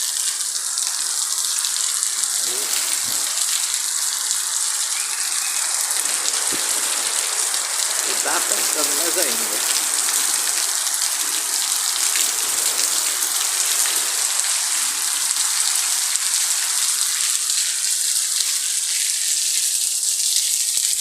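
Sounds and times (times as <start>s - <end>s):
heavy rain pattering: 0.0s - 21.0s.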